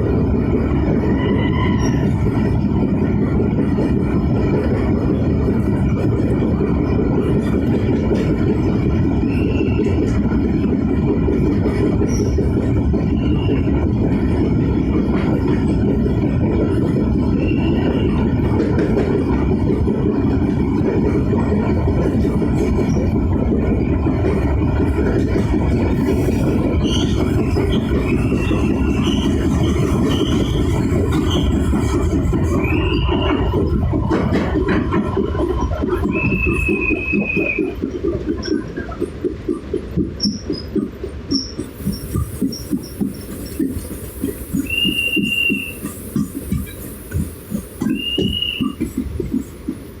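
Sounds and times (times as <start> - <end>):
train wheels rumbling on track: 0.0 - 50.0.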